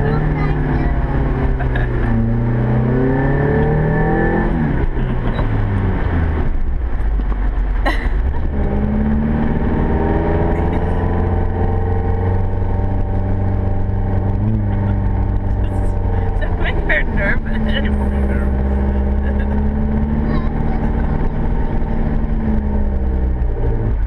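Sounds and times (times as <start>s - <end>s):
engine revving hard: 0.0s - 5.7s, 8.3s - 24.0s.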